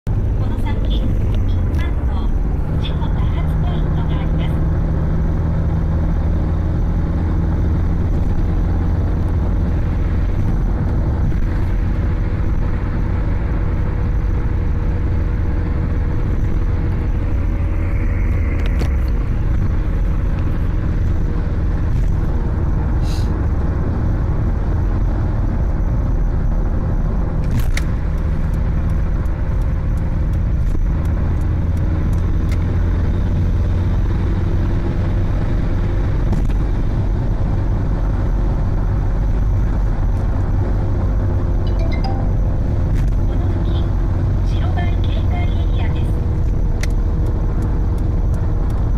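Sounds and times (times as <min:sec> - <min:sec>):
car driving rumble and drone: 0:00.0 - 0:48.9.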